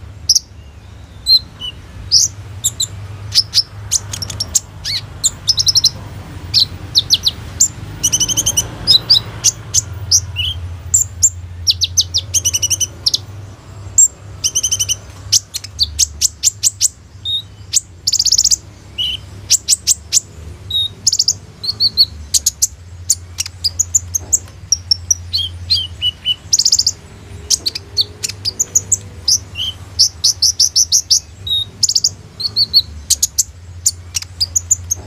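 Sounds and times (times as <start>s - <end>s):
sunbird singing high chirps: 0.0s - 35.0s.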